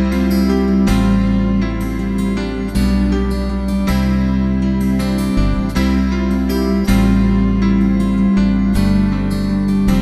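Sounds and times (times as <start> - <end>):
gentle acoustic guitar music: 0.0 - 10.0.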